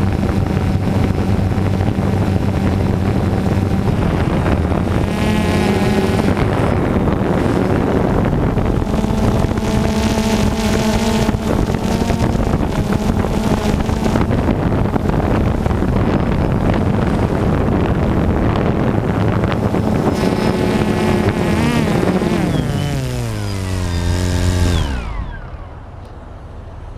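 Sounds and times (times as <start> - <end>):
drone propellers buzzing: 0.0 - 26.9.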